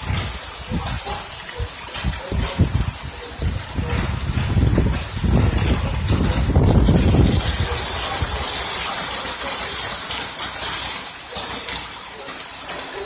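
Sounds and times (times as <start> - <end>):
heavy rain hissing: 0.0 - 13.0
runoff water rushing: 0.0 - 13.0.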